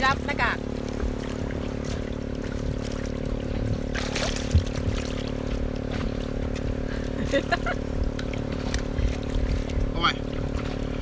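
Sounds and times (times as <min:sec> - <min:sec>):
low mechanical hum: 0:00.0 - 0:11.0
water splashing and trickling: 0:00.0 - 0:11.0.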